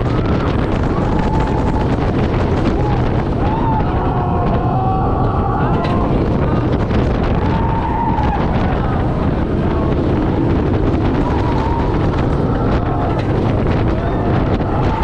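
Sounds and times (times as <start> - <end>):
roller coaster wheels rumbling: 0.0 - 15.0
wind on microphone: 0.0 - 15.0.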